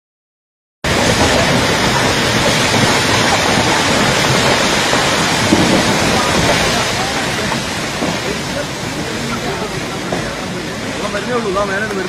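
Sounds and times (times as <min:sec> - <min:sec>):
flood torrent roaring: 0:00.8 - 0:12.0.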